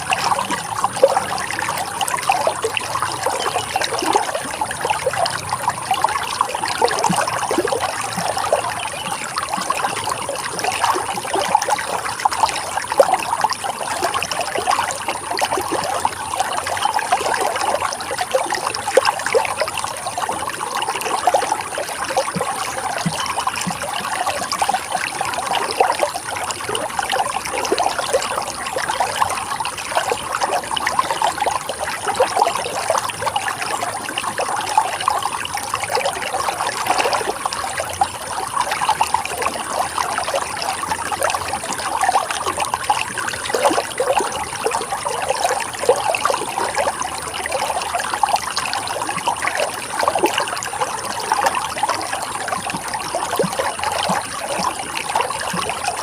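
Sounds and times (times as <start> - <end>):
stream trickling and burbling: 0.0 - 56.0.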